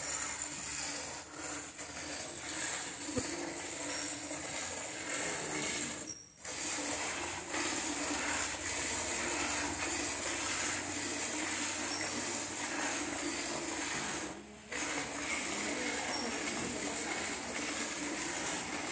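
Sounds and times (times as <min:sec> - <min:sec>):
milk squirting into metal pail: 0:00.0 - 0:18.9.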